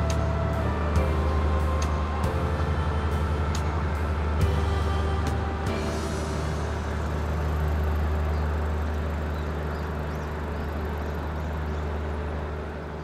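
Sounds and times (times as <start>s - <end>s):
diesel boat engine drone: 0.0s - 13.0s.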